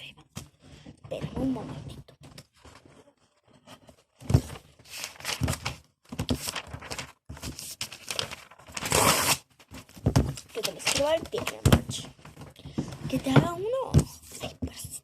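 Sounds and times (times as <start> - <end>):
paper rustling and crinkling: 0.4 - 14.9.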